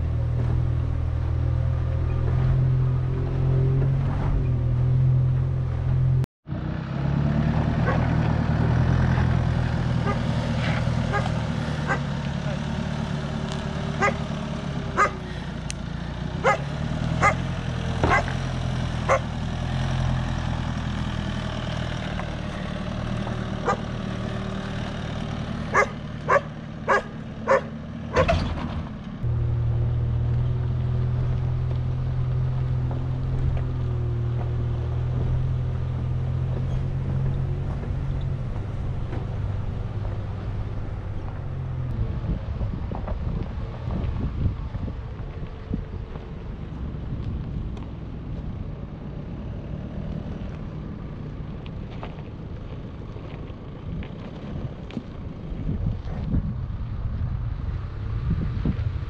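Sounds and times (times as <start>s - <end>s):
pickup engine humming: 0.0s - 58.2s.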